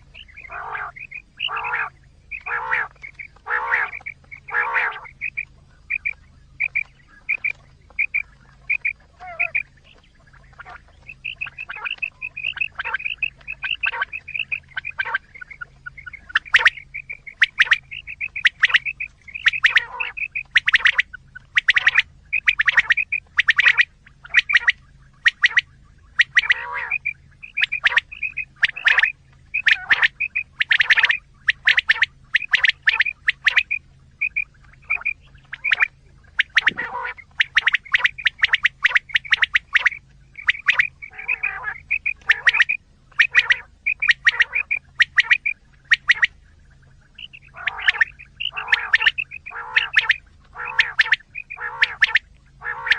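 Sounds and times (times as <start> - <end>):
quail chirping calls: 0.0 - 52.9.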